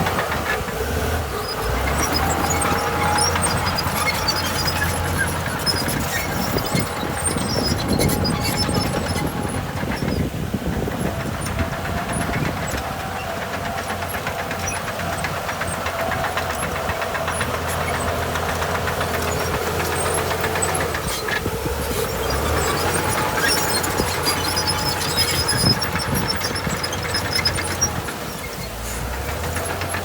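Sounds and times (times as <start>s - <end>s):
heavy diesel engine rumbling: 0.0s - 30.0s.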